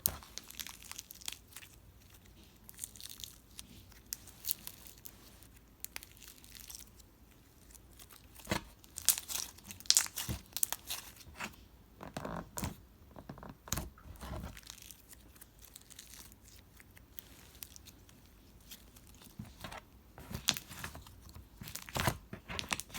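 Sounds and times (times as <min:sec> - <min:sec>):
slime crust crackling: 0:00.0 - 0:11.5, 0:12.3 - 0:22.9.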